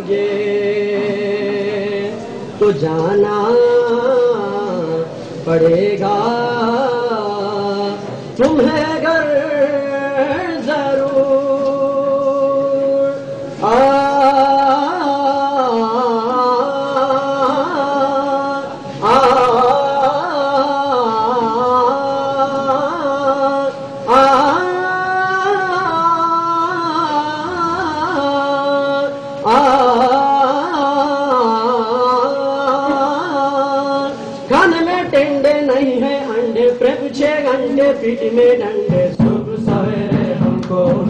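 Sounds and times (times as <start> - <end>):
person singing long notes: 0.0 - 41.0.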